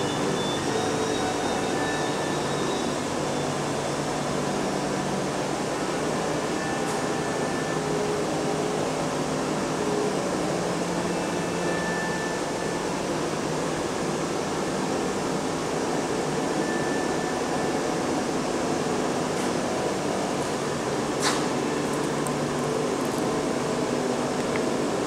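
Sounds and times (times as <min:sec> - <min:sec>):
ventilation hiss: 0:00.0 - 0:25.0.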